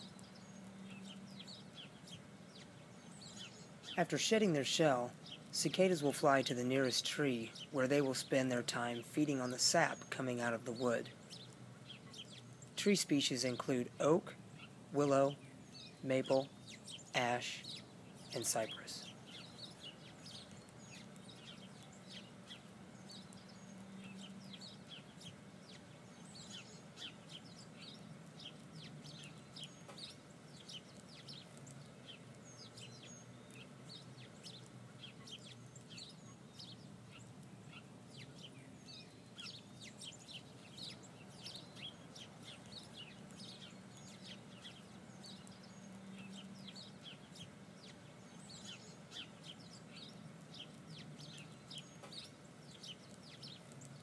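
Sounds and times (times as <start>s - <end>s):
birds chirping: 0.0s - 54.0s
low steady hum: 0.0s - 54.0s.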